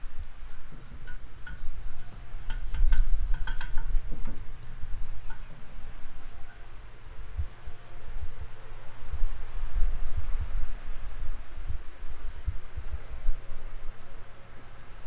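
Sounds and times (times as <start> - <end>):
high insect chirring: 0.0 - 15.0
low rumble: 0.0 - 15.0.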